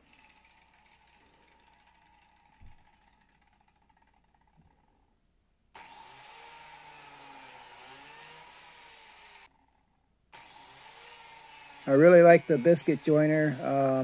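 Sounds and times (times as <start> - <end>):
biscuit joiner motor whine: 0.0 - 4.8, 5.8 - 9.8, 10.4 - 14.0.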